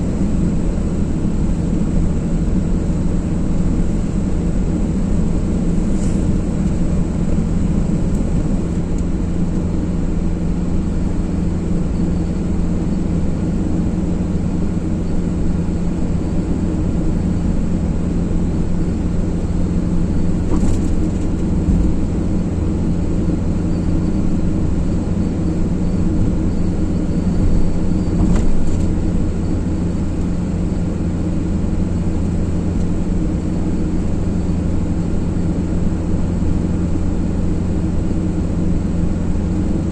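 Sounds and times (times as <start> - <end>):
car driving on motorway: 0.0 - 39.9.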